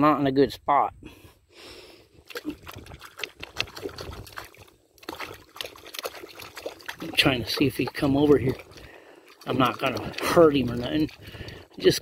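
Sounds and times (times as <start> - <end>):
water splashing and trickling: 2.1 - 12.0.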